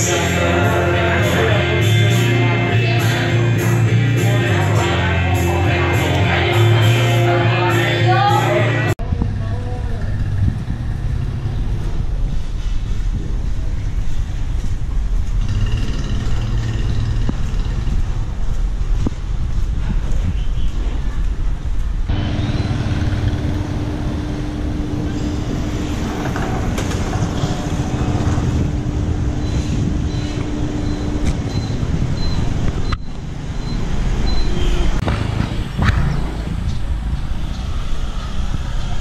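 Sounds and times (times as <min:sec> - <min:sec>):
engine-like hum: 0:00.0 - 0:19.4, 0:22.0 - 0:39.0
motorbike traffic rumble: 0:00.0 - 0:39.0.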